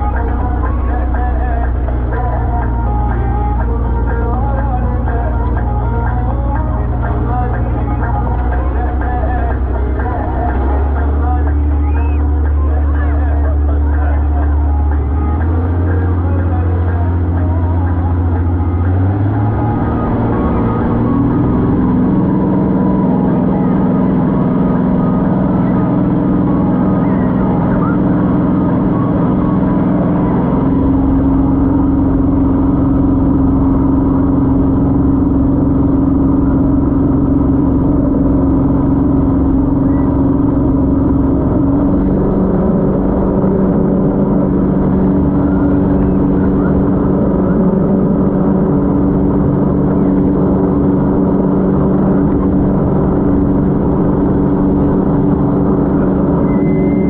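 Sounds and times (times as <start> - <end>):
speedboat engine running: 0.0 - 57.0.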